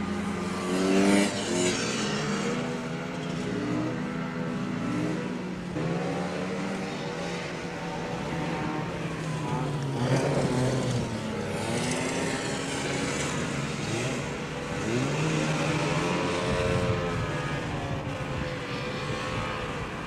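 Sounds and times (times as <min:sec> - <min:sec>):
atv engine revving: 0:00.0 - 0:19.8.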